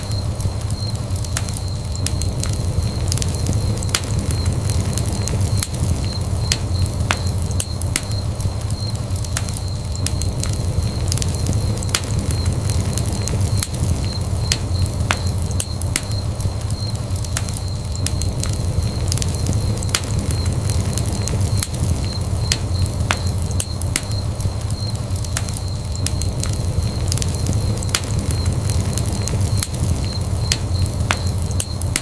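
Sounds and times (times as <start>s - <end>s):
fire flames rumbling: 0.0s - 32.0s
wood fire crackling and popping: 0.0s - 32.0s.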